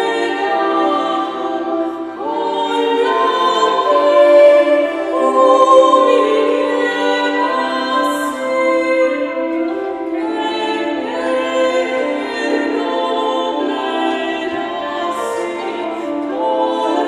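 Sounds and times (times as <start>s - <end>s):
bowed viola: 0.0s - 17.0s
portative organ: 0.0s - 17.0s
women singing: 0.0s - 17.0s.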